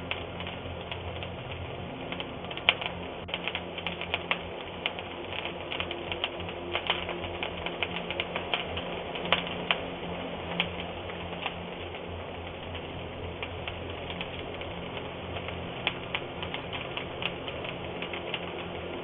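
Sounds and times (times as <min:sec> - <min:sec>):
fire crackling and popping: 0:00.0 - 0:19.0
low steady hum: 0:00.0 - 0:19.0.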